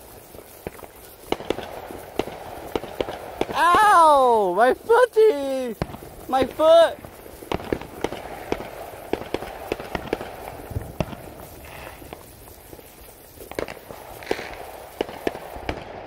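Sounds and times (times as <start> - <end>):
firework fountain hissing and crackling: 0.0 - 16.0.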